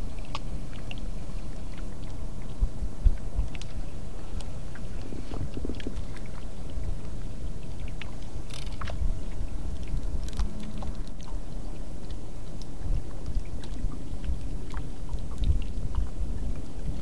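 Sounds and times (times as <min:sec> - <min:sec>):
boat engine rumble: 0:00.0 - 0:17.0.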